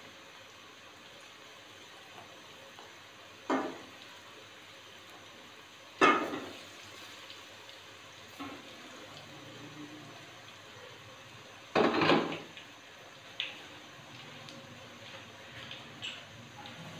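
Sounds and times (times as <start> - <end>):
deep-frying sizzle: 0.0 - 16.9.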